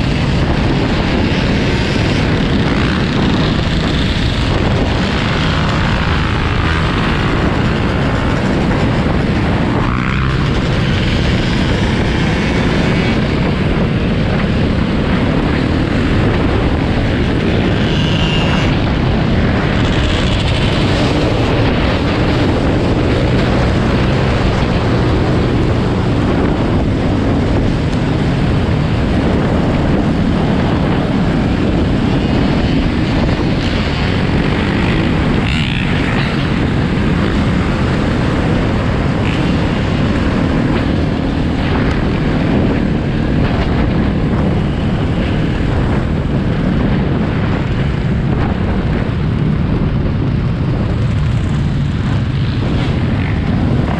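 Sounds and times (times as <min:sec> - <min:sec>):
dirt bike engine running: 0:00.0 - 0:53.9
other dirt bikes and quads: 0:00.0 - 0:53.9
wind on microphone: 0:00.0 - 0:53.9.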